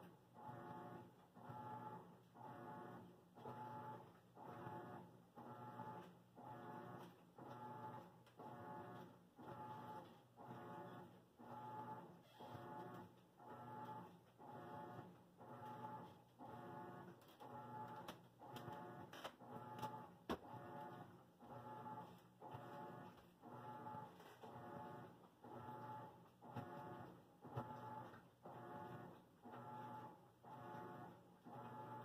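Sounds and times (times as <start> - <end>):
washing machine motor whir: 0.0 - 32.0.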